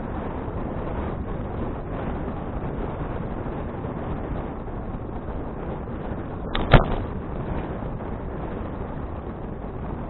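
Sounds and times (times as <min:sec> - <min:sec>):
bicycle road noise: 0:00.0 - 0:10.0
wind rushing on microphone: 0:00.0 - 0:10.0.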